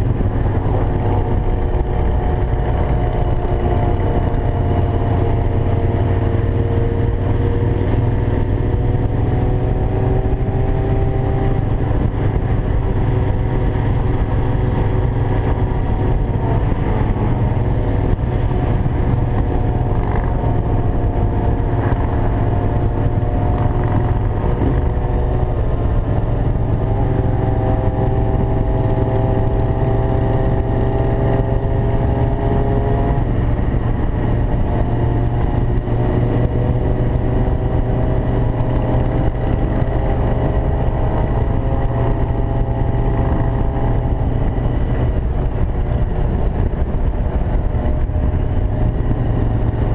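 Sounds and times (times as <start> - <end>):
vehicle engines revving: 0.0 - 49.9.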